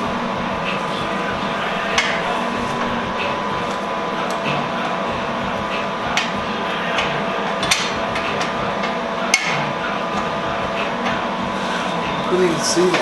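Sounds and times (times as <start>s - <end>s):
steady shop hum: 0.0s - 13.0s.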